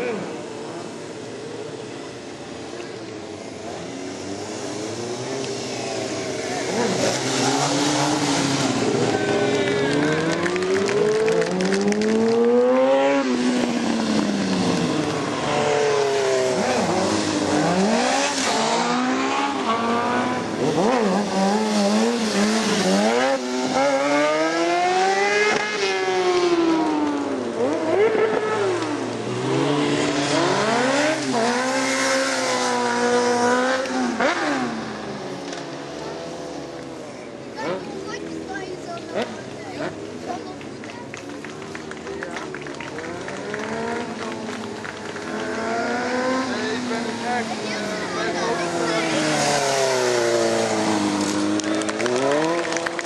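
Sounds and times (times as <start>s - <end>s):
motorcycle engine revving: 3.2s - 53.0s.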